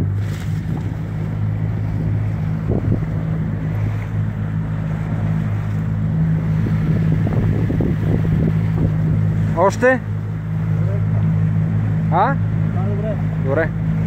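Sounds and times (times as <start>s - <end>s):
wind buffeting microphone: 0.0s - 12.0s
outboard motor running: 0.0s - 14.0s
water rushing along hull: 0.0s - 14.0s.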